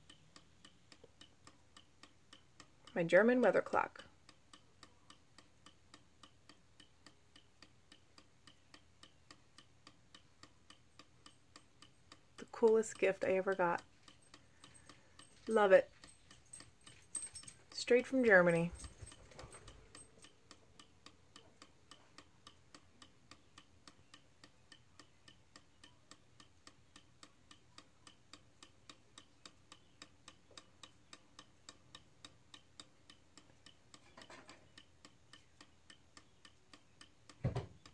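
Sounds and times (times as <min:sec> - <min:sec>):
clock ticking faintly: 0:00.0 - 0:37.9.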